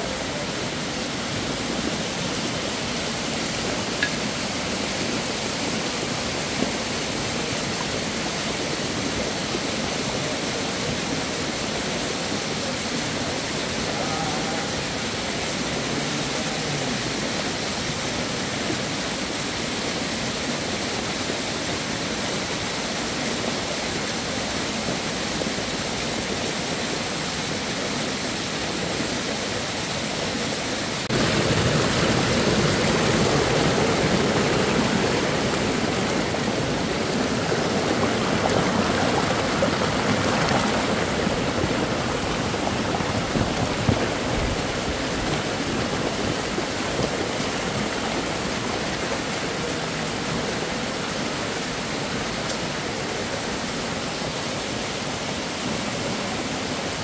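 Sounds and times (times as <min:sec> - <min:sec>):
stream splashing over stones: 0:00.0 - 0:57.0.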